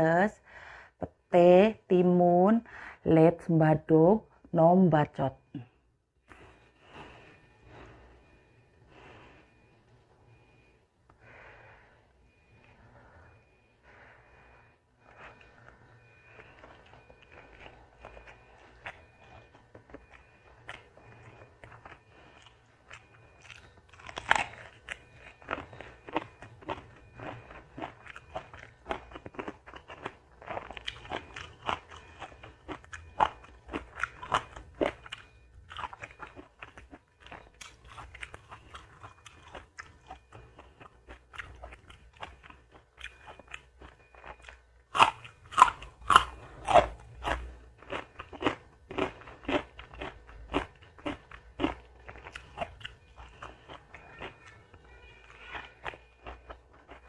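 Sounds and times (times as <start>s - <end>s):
person chewing crunchy food: 5.4s - 9.6s, 12.6s - 57.0s.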